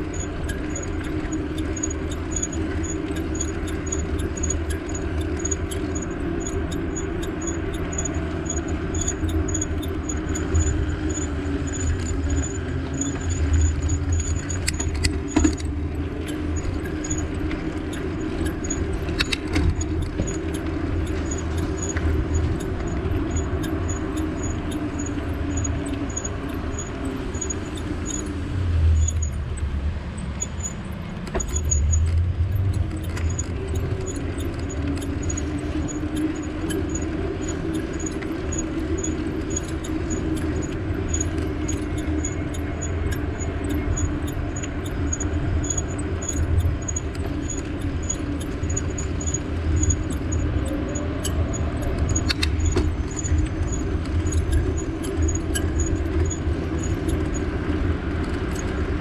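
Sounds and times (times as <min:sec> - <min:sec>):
bike riding rumble on road: 0:00.0 - 0:59.0
light regular ticking: 0:00.0 - 0:59.0.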